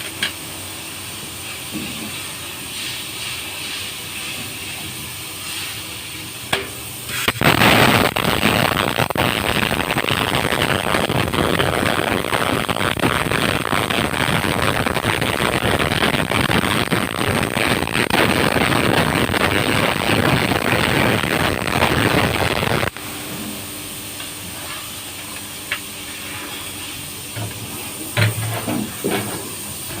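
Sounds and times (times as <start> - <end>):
welding arc crackling: 0.0 - 30.0.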